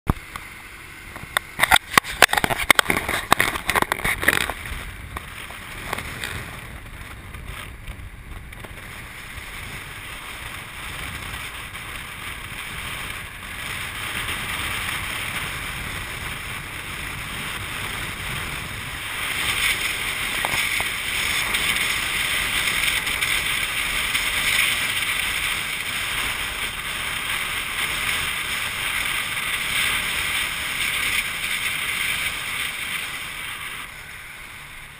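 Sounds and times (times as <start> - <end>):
motorbike road noise: 0.1 - 34.9
wind rushing over microphone: 0.1 - 34.9.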